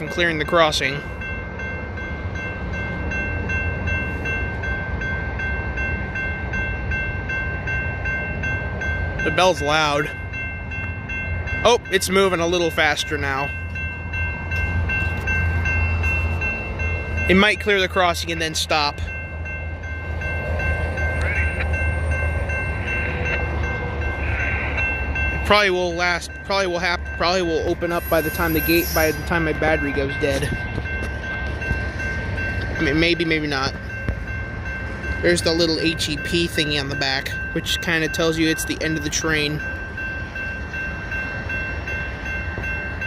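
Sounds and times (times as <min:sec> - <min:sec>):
freight cars rumbling: 0:00.0 - 0:43.0
railroad crossing bell ringing: 0:00.0 - 0:43.0.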